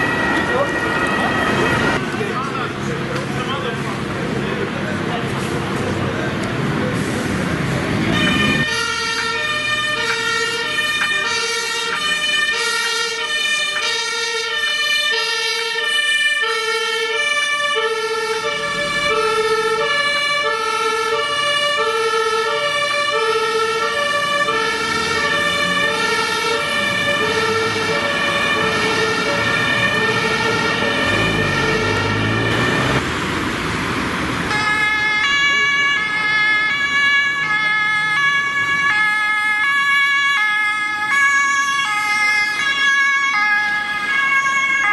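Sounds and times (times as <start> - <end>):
two-tone ambulance siren: 0.0 - 2.8, 8.0 - 33.0, 34.5 - 44.9.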